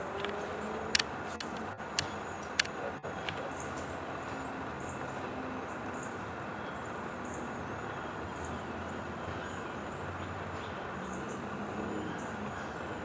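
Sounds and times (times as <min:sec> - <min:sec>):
outdoor background hum: 0:00.0 - 0:13.0.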